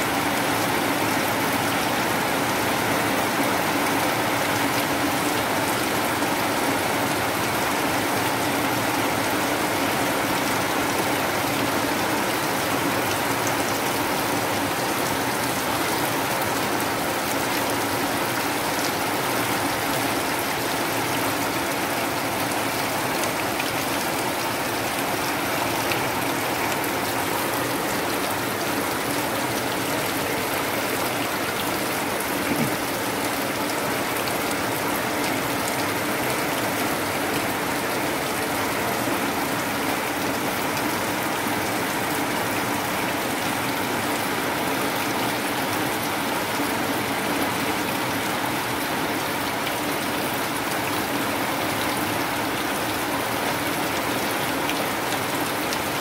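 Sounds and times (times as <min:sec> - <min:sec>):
rain splashing on water: 0:00.0 - 0:56.0.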